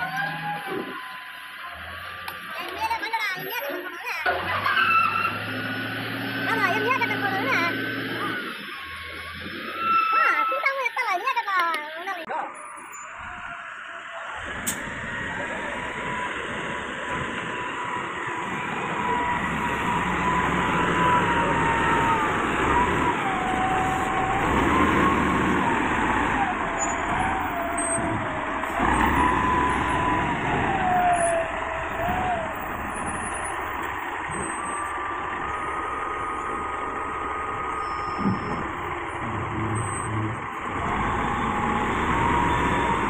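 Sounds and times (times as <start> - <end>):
wheel loader diesel engine whine: 0.0 - 43.0.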